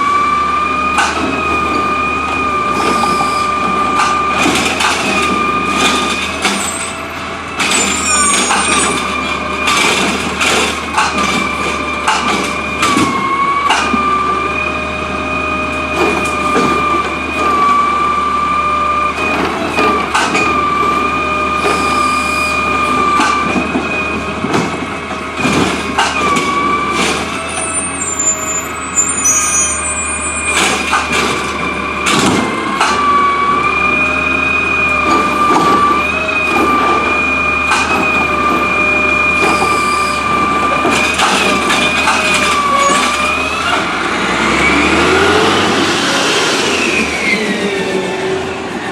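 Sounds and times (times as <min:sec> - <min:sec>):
garbage truck high-pitched whine: 0:00.0 - 0:48.9.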